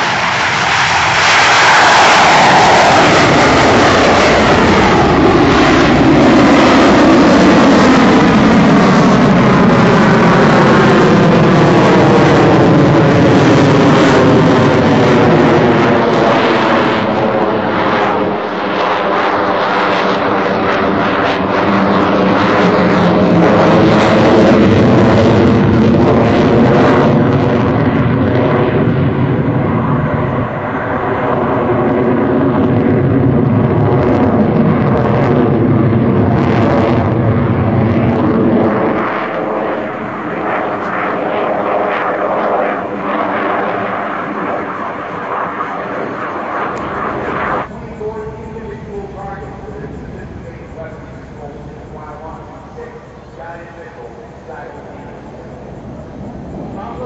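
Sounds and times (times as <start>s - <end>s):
fighter jet engines roaring past: 0.0s - 57.0s.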